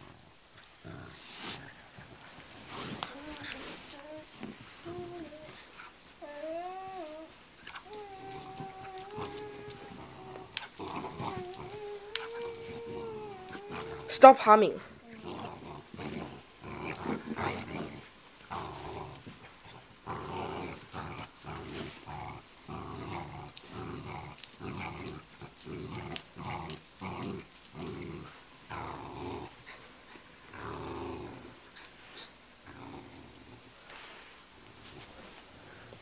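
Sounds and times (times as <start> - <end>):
dog play-growling: 0.0 - 14.1, 14.9 - 36.0.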